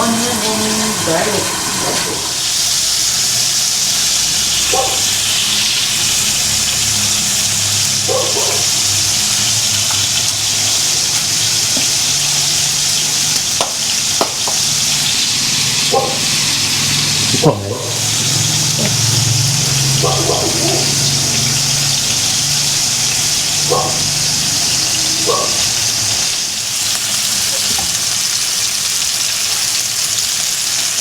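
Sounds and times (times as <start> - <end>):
chicken wings sizzling in oil: 0.0 - 31.0.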